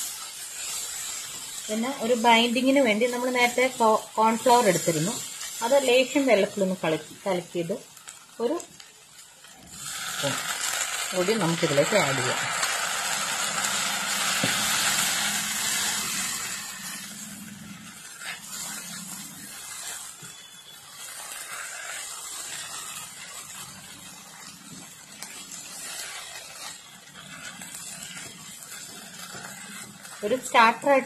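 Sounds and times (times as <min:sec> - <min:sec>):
cauliflower sizzling in a pan: 0:00.0 - 0:31.0
spatula stirring and tossing: 0:00.0 - 0:31.0.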